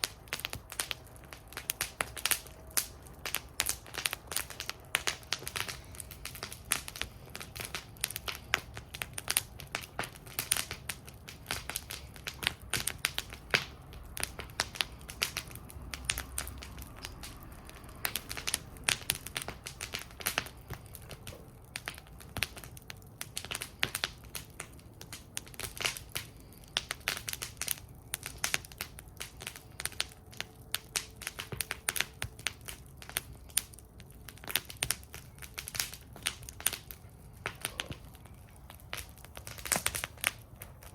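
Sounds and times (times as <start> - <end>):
campfire crackling and popping: 0.0 - 40.9
low steady rumble: 0.0 - 40.9.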